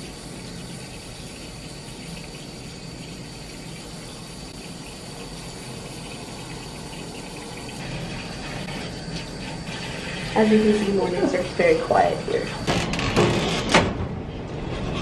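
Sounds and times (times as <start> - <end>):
tap water running into sink: 0.0 - 12.8.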